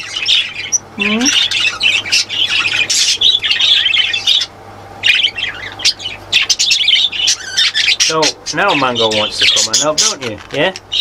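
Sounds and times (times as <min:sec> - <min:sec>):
budgerigars chattering and squawking: 0:00.0 - 0:11.0.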